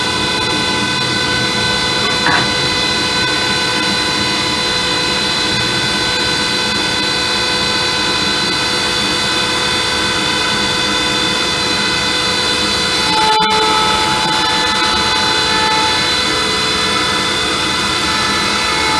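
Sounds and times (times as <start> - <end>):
jointer-planer whining: 0.0 - 18.9.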